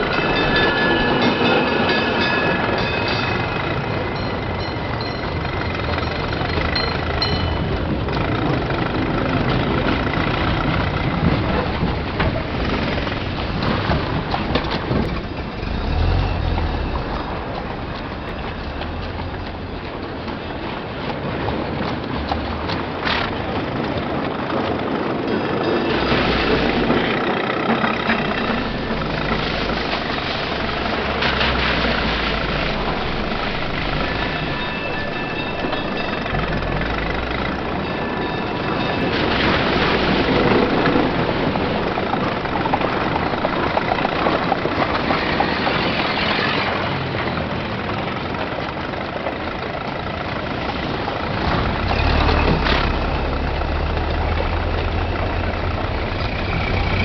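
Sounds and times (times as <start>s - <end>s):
clattering street din: 0.0s - 57.0s
old car engines chugging: 0.0s - 57.0s.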